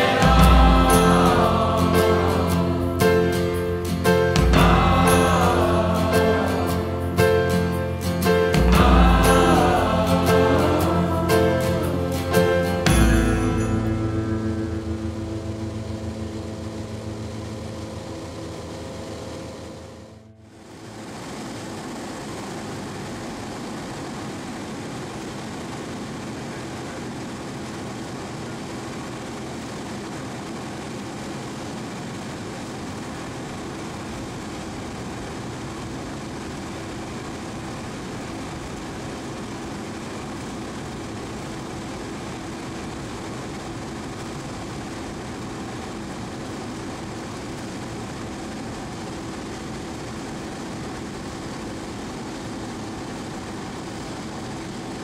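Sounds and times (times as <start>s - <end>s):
aircraft engine drone in cabin: 0.0s - 55.0s
faint steady hum: 0.0s - 55.0s.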